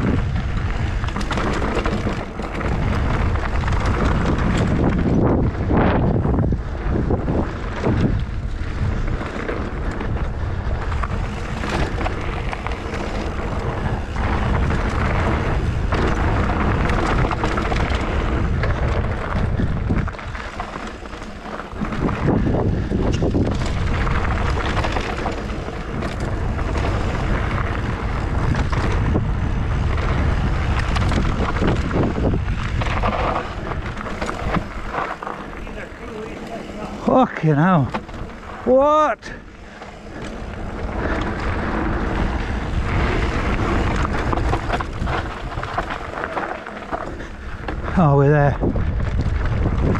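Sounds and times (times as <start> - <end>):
bike tyres rumbling and rattling: 0.0 - 49.9
wind buffeting microphone: 0.0 - 49.9.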